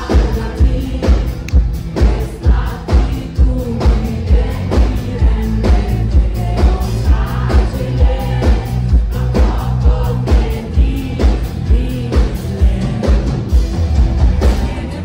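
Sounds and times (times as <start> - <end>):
woman singing lead: 0.0 - 13.7, 14.3 - 15.0
live pop-rock band playing: 0.0 - 15.0
steady kick-drum beat: 0.0 - 15.0.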